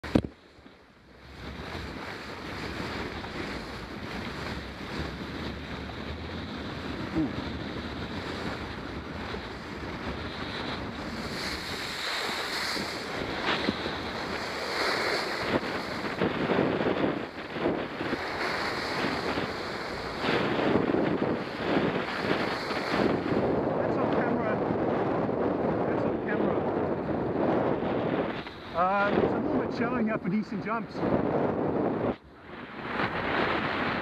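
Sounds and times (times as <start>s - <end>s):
water rushing under a board: 0.0s - 29.9s, 31.1s - 34.0s
wind noise on microphone: 0.0s - 34.0s.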